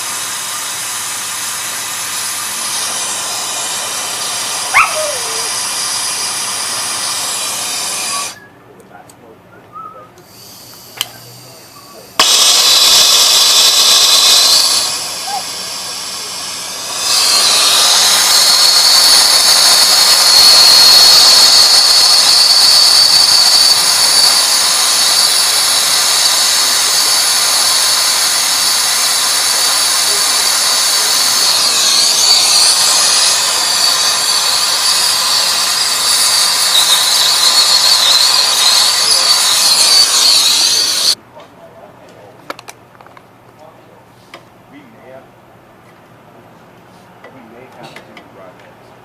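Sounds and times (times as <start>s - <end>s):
torch gas hissing: 0.0s - 8.4s, 10.2s - 41.2s.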